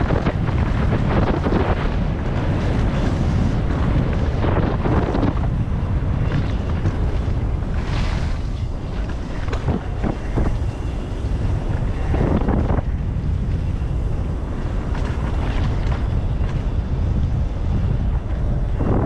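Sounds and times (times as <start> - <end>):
bike tyres rolling on dirt trail: 0.0 - 19.0
rush of tyre and brush noise: 0.0 - 19.0
wind buffeting microphone: 0.0 - 19.0.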